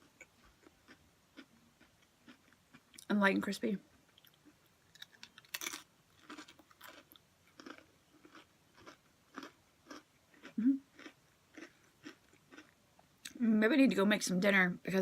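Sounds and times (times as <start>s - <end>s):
person chewing crispy crackers: 0.0s - 3.1s, 4.1s - 13.4s.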